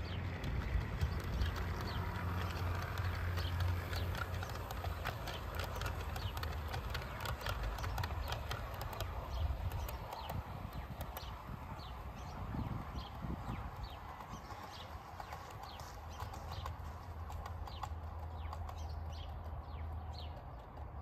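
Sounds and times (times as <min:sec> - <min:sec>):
low motor hum: 0:00.0 - 0:21.0
model train wheels clicking: 0:00.0 - 0:21.0.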